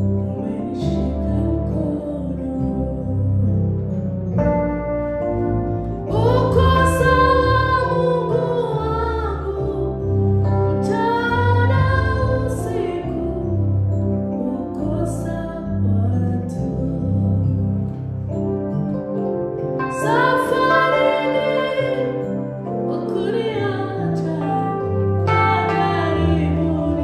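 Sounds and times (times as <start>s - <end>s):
electronic keyboard chords: 0.0s - 27.0s
woman singing into a microphone: 0.3s - 3.9s, 6.1s - 18.0s, 19.9s - 27.0s.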